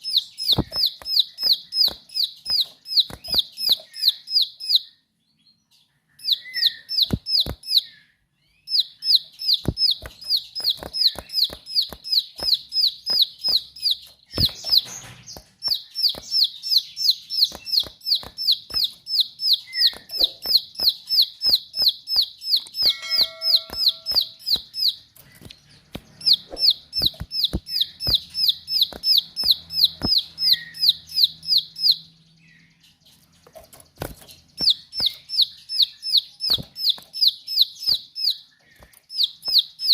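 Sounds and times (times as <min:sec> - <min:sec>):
bird singing rapid high notes: 0:00.0 - 0:39.9
sharp clicks: 0:00.4 - 0:04.1, 0:06.9 - 0:07.8, 0:09.1 - 0:31.2, 0:33.4 - 0:39.9.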